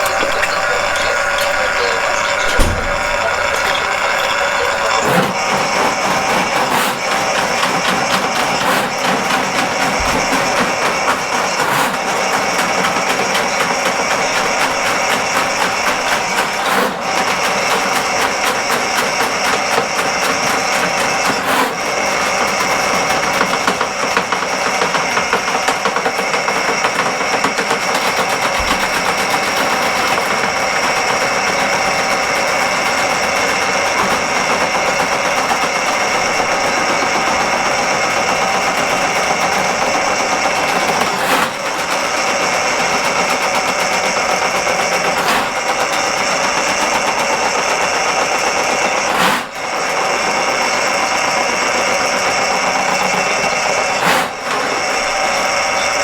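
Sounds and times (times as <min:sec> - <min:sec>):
drain cleaning machine running: 0:00.0 - 0:56.0.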